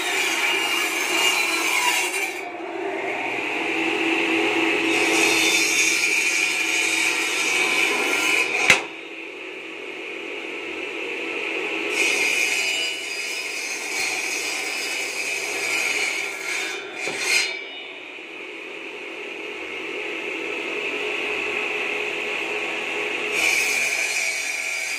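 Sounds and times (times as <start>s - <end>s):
circular saw cutting bamboo: 0.0s - 9.4s, 11.2s - 18.5s, 19.1s - 24.9s.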